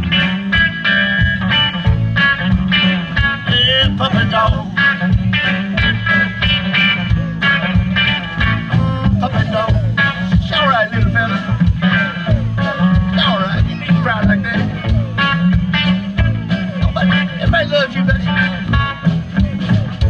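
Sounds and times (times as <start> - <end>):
bass guitar: 0.0 - 20.0
drums with steady beat: 0.0 - 20.0
electric guitars: 0.0 - 20.0.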